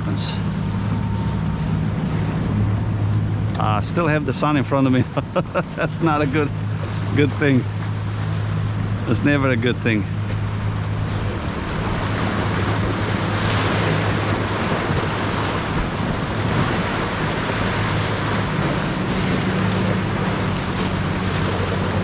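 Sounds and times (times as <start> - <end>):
low steady hum: 0.0 - 22.0
sea surf breaking: 0.0 - 22.0.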